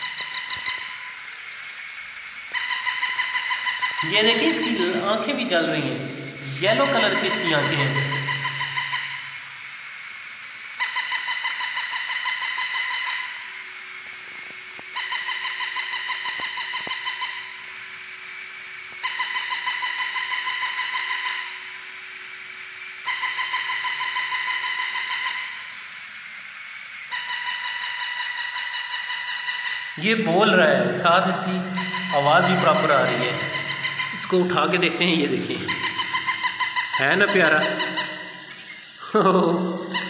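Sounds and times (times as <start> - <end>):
toy shrill buzzy electronic call: 0.0 - 1.3, 2.4 - 9.6, 10.7 - 13.6, 14.8 - 22.3, 22.9 - 25.9, 27.0 - 40.0
toy walking mechanism: 0.0 - 40.0.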